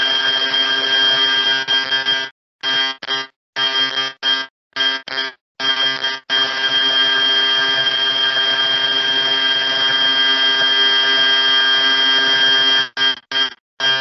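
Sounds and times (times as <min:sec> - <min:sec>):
loud buzzing tone: 0:00.0 - 0:14.0.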